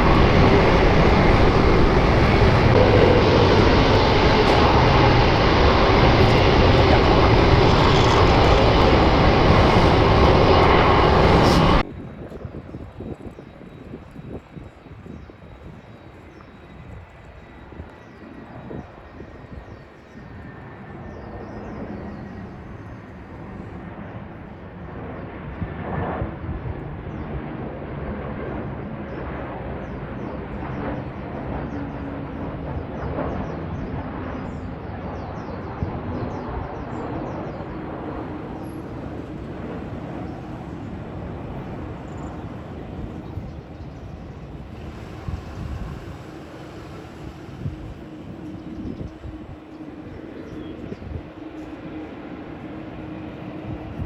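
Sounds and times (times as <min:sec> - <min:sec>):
jet airliner engines rumbling: 0:00.0 - 0:54.0.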